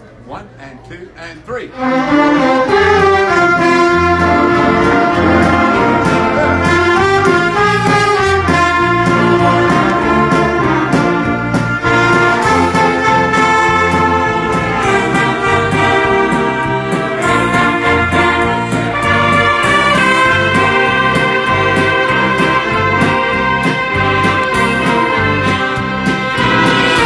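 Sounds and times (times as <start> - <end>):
brass band playing: 1.7 - 27.0
steady drum beat: 2.7 - 27.0.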